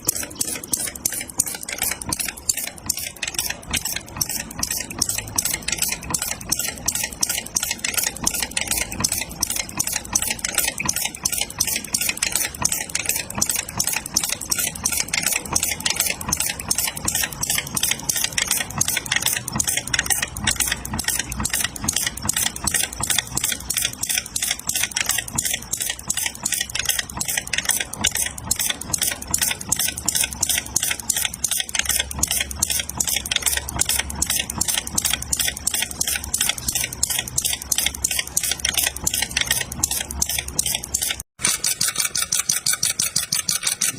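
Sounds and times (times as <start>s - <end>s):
model engine clattering: 0.0s - 43.9s.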